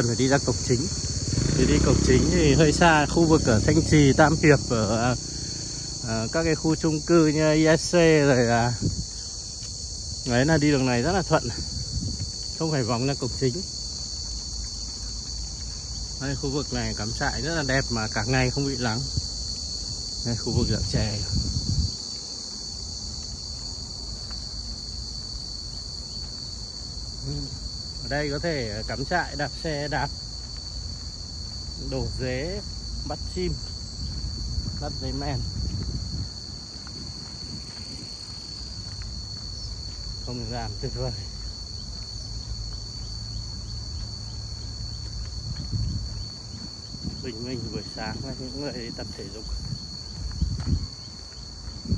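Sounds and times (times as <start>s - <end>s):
insects droning in chorus: 0.0s - 51.9s.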